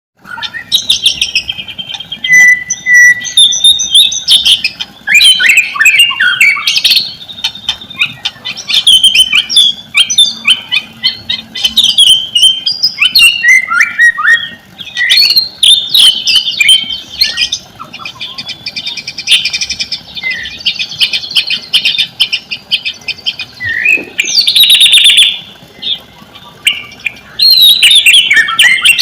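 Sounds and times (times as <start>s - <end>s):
bird singing whistled notes: 0.2s - 29.0s.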